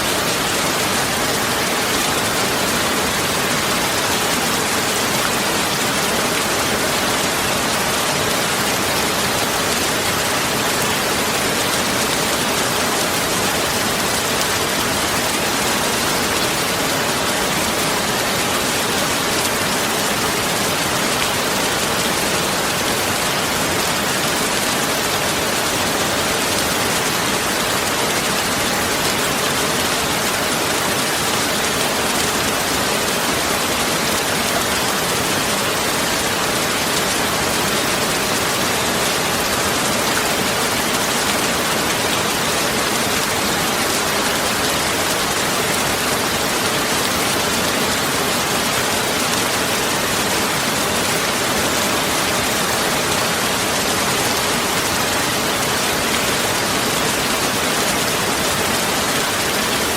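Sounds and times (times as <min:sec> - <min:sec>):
steady rain-like hiss: 0:00.0 - 0:59.9.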